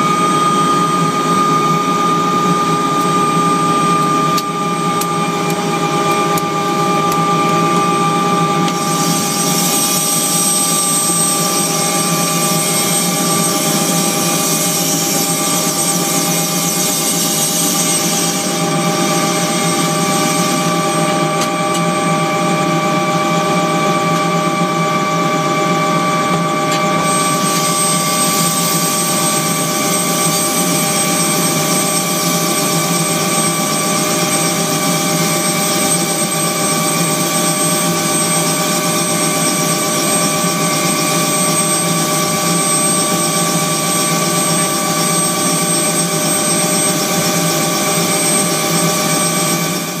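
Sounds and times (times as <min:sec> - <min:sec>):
helicopter engine and rotor: 0:00.0 - 0:50.0.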